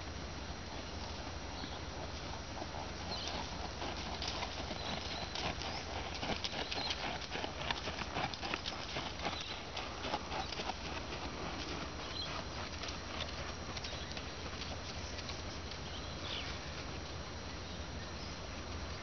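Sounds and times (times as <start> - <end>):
steady low hum: 0.0 - 19.0
hoofbeats crunching on gravel: 0.4 - 17.1.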